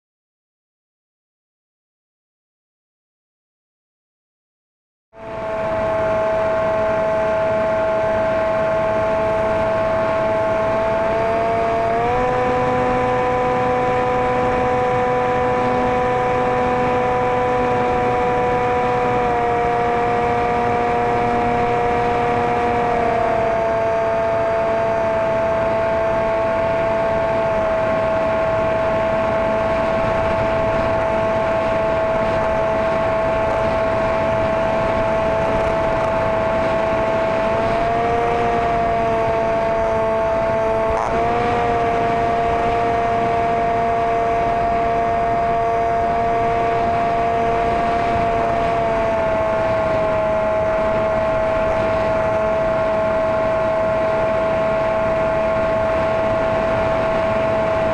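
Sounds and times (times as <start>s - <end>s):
model plane motor whining: 5.2s - 57.9s.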